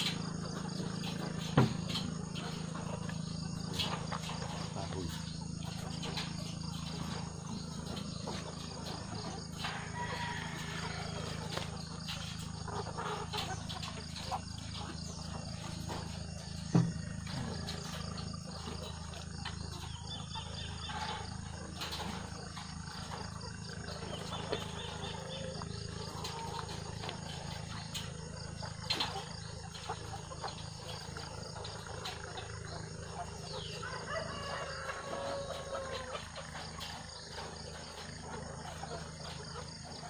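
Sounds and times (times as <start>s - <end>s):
hens calling: 0.0s - 40.0s
steady low hum: 0.0s - 40.0s.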